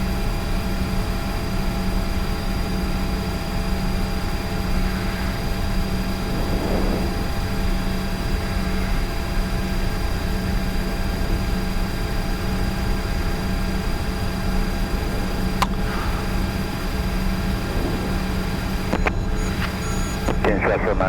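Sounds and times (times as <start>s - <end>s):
jet engines idling hum: 0.0s - 21.0s.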